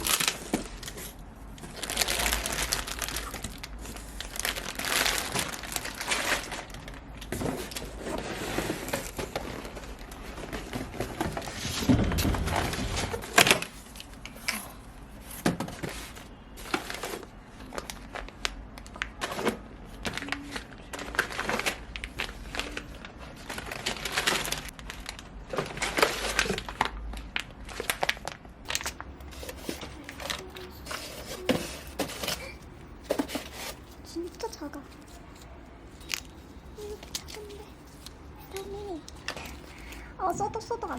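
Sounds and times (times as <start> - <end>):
crinkling handling noise: 0.0 - 40.9.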